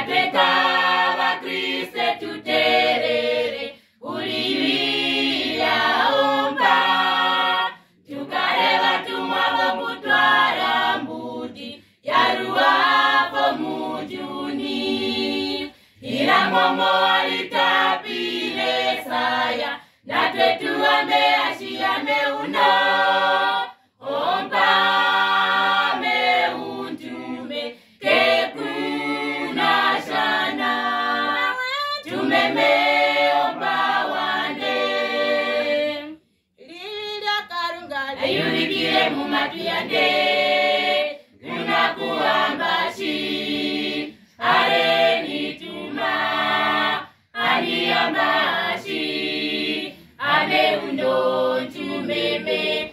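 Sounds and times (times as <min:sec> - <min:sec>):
choir singing a cappella: 0:00.0 - 0:52.9.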